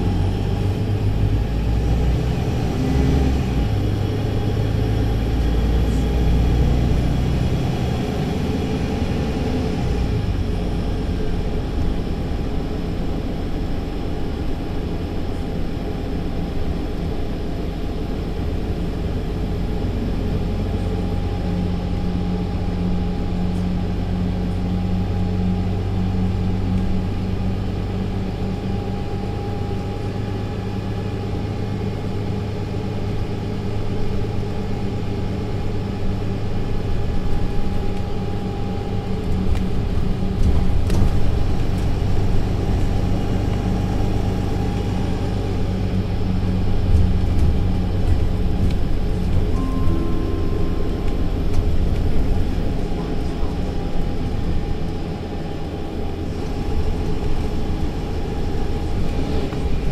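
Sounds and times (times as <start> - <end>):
bus diesel engine hum: 0.0 - 59.9
drivetrain whine: 0.0 - 59.9
road rumble: 0.0 - 59.9.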